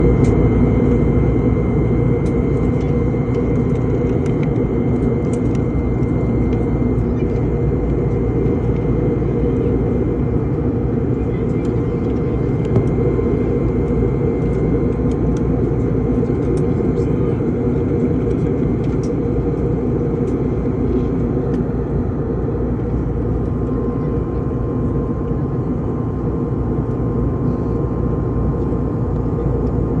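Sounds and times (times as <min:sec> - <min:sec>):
airliner engine and airflow drone: 0:00.0 - 0:30.0.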